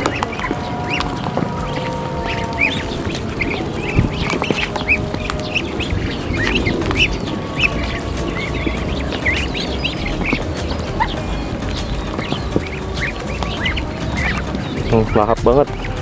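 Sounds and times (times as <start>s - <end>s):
ducklings peeping: 0.0s - 16.0s.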